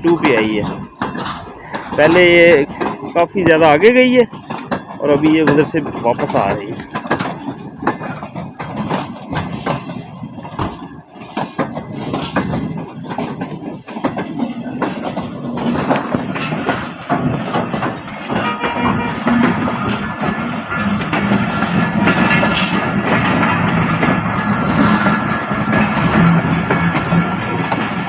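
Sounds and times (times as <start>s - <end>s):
train wheels knocking over rail joints: 0.0s - 28.0s.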